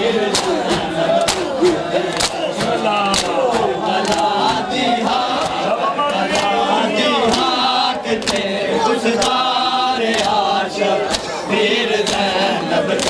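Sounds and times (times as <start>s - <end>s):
palms slapping chests: 0.0s - 6.6s, 7.2s - 8.6s, 9.2s - 11.4s, 12.0s - 13.0s
crowd of men chanting: 0.0s - 13.0s.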